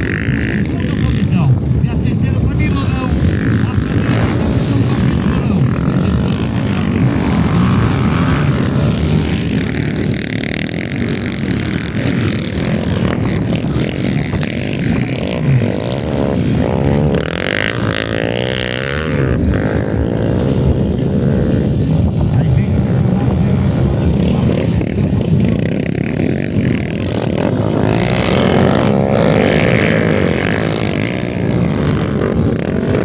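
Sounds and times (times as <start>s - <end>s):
motocross bike engines revving: 0.0s - 33.0s.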